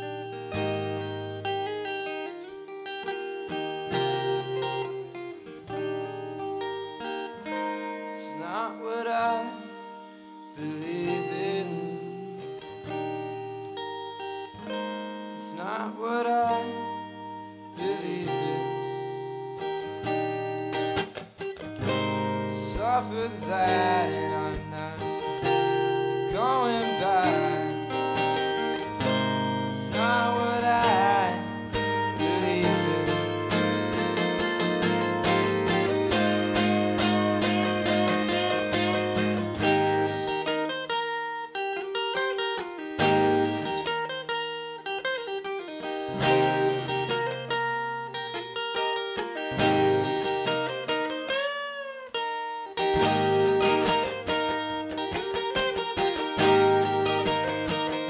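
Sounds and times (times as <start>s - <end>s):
acoustic guitar picking chords: 0.0s - 58.0s
wordless wavering melodic line: 0.0s - 58.0s.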